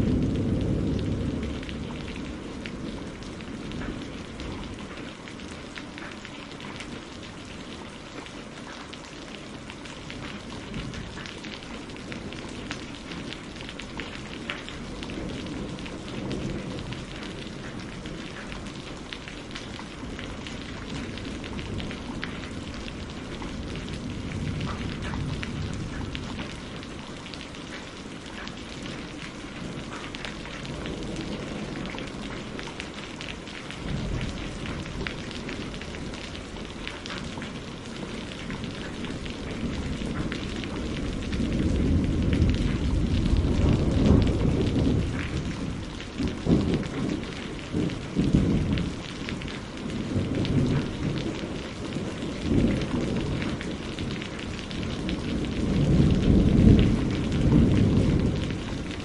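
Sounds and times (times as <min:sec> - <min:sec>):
distant thunder rumble: 0:00.0 - 0:05.7, 0:10.2 - 0:59.0
rain pattering on a roof: 0:00.0 - 0:59.0.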